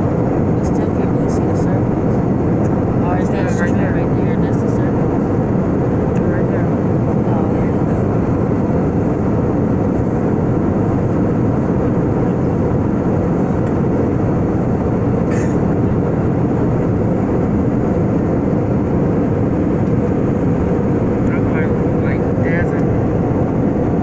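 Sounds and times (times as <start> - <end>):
jet airliner cabin roar: 0.0 - 24.0.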